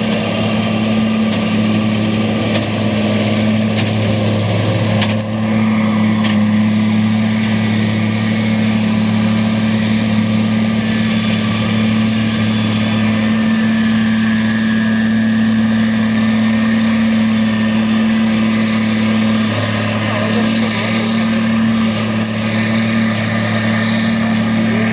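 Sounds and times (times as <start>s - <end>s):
baler working: 0.0s - 24.9s
tractor diesel engine running: 0.0s - 24.9s.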